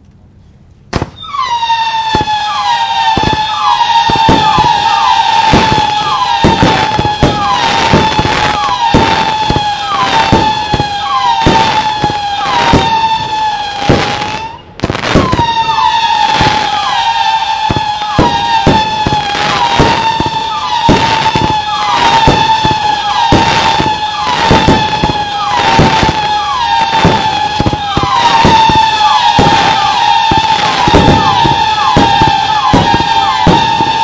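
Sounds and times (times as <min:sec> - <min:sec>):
firework bangs: 0:00.9 - 0:34.0
shrill firework whistles: 0:01.0 - 0:34.0.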